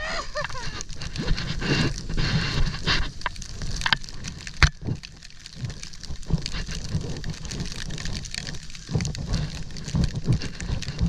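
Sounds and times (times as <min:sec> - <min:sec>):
snowboard sliding through powder snow: 0:00.0 - 0:03.7, 0:05.5 - 0:11.0
wind rumble on microphone: 0:00.0 - 0:11.0.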